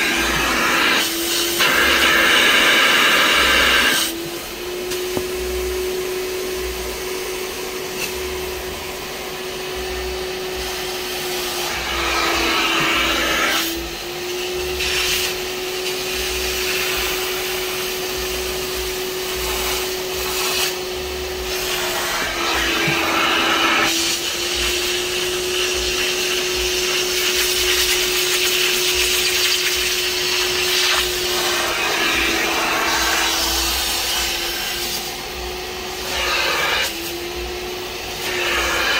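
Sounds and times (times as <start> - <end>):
spray extractor suction motor: 0.0 - 38.9.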